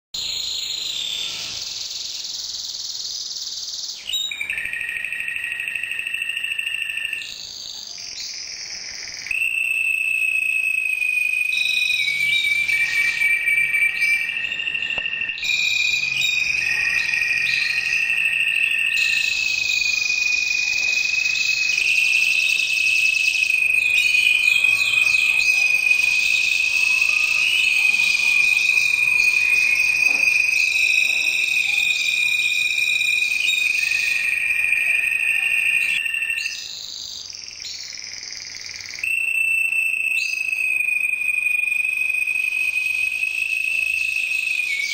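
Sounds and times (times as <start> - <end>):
canary singing trills: 0.2 - 44.9.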